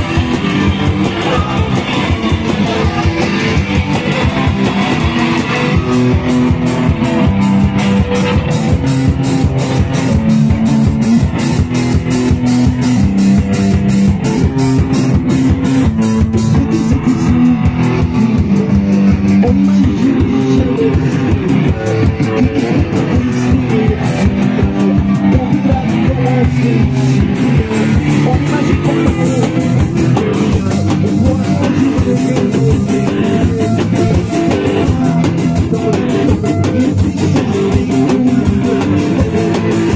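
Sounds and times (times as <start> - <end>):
bass guitar: 0.0 - 39.9
drum kit beat: 0.0 - 39.9
electric guitar riff: 0.0 - 39.9.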